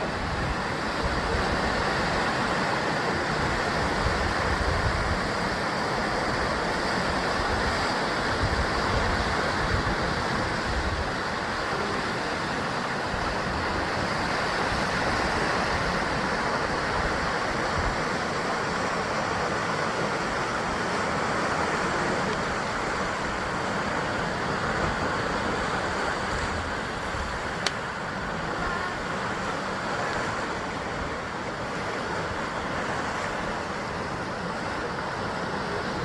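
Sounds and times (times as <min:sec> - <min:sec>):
waves surging against rocks: 0:00.0 - 0:36.0.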